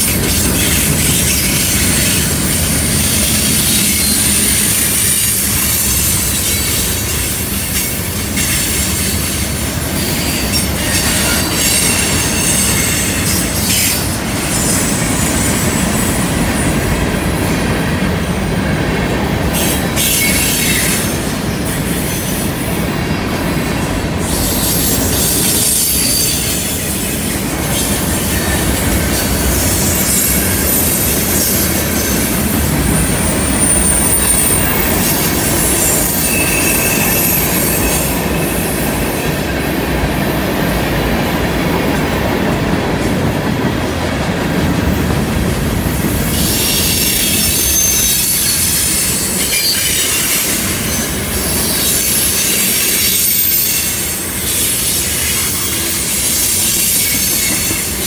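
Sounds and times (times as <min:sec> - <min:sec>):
train wheels squealing: 0:00.0 - 0:40.7, 0:46.0 - 0:58.0
freight train rumbling past: 0:00.0 - 0:58.0.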